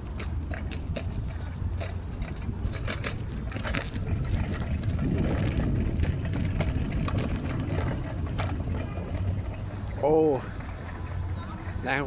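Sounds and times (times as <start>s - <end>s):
vehicle rumble in motion: 0.0s - 12.0s.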